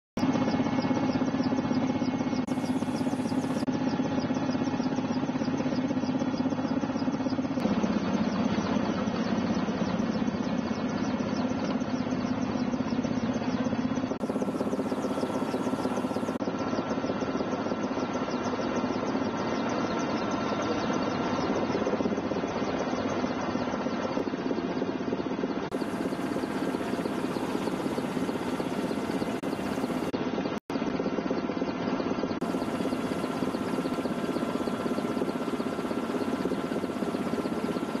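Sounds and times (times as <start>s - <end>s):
helicopter engine and rotor: 0.2s - 38.0s.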